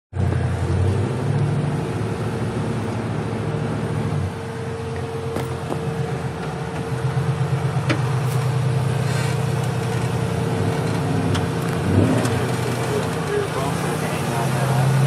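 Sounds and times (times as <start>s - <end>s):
off-road vehicle engine running: 0.1s - 15.0s.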